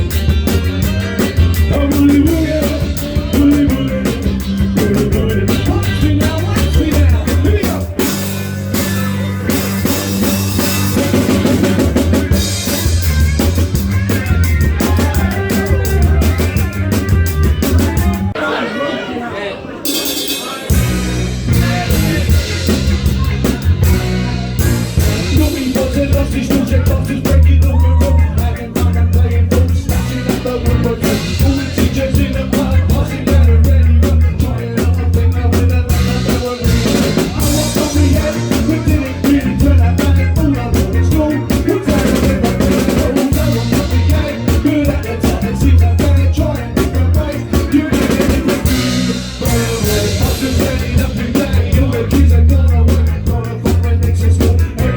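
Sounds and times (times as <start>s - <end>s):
snare and bass drum: 0.0s - 18.3s, 20.8s - 54.9s
low bass notes: 0.0s - 18.4s, 20.7s - 54.9s
live soul band playing: 0.0s - 18.5s, 19.7s - 54.9s.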